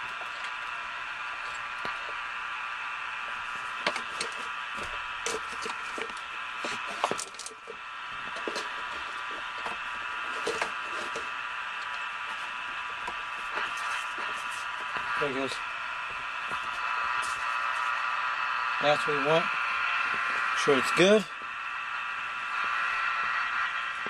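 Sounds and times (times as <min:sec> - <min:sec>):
radio static hiss: 0:00.0 - 0:24.0
static crackles and clicks: 0:00.0 - 0:24.0.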